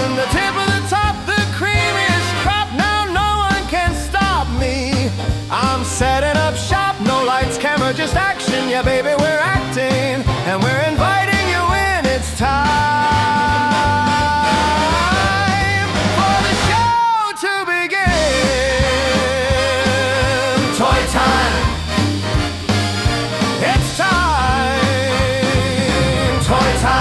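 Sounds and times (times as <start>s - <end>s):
upbeat rock music: 0.0s - 17.2s, 18.0s - 27.0s.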